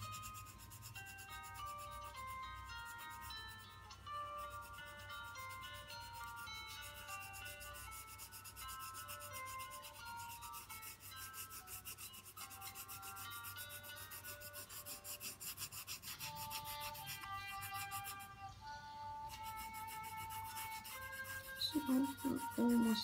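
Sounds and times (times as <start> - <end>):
colored pencil scratching on paper: 0.0 - 18.5, 19.3 - 23.0
soft background melody: 0.0 - 23.0.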